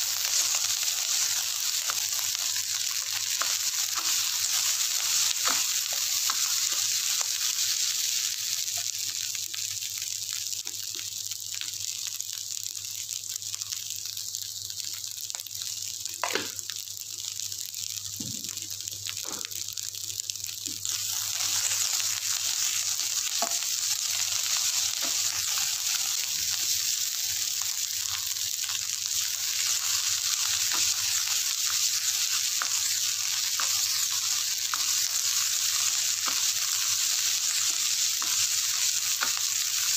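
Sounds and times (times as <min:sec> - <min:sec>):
rice sizzling in a wok: 0:00.0 - 0:39.9.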